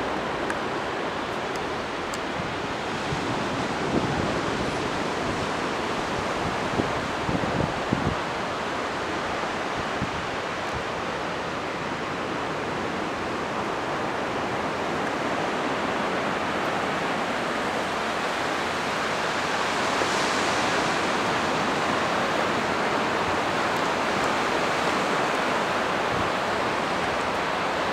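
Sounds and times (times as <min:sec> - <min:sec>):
ocean surf: 0:00.0 - 0:27.9
wind: 0:00.0 - 0:27.9
wind buffets on microphone: 0:00.0 - 0:27.9.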